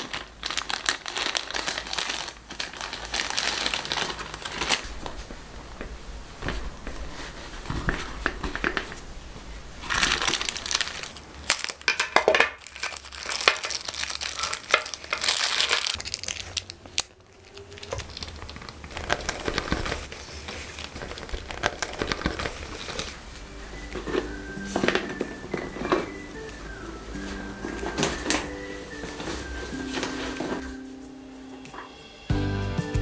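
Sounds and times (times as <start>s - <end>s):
plastic wrap crinkling: 0.0s - 30.9s.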